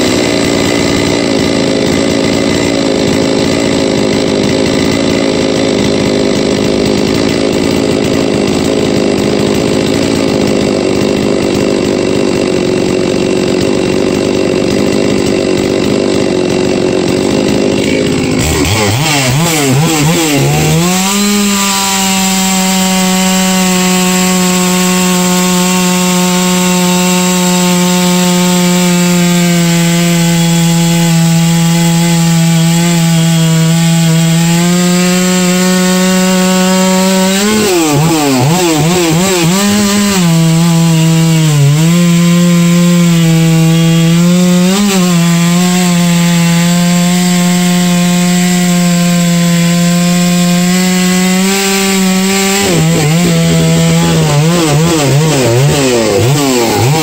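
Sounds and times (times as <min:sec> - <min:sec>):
chainsaw cutting a log: 0:00.0 - 0:57.0
chainsaw revving: 0:00.0 - 0:57.0.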